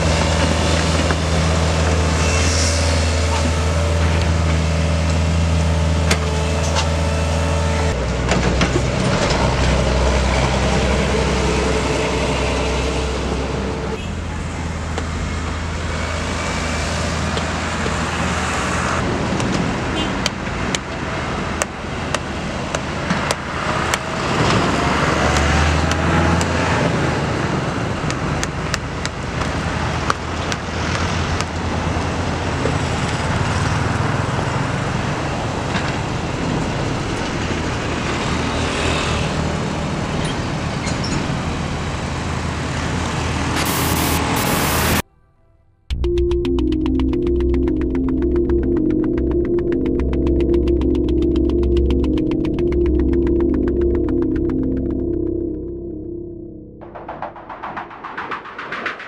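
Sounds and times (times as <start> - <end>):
highway traffic passing: 0.0 - 45.0, 46.7 - 59.0.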